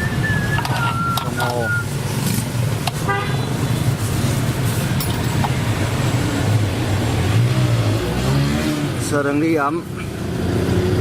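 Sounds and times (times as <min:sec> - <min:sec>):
road traffic engines: 0:00.0 - 0:11.0.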